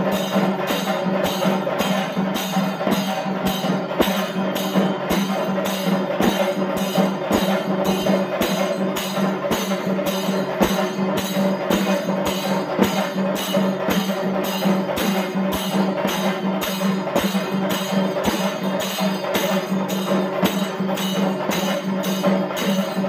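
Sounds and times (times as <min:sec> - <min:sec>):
percussion ensemble drumming: 0:00.0 - 0:23.0.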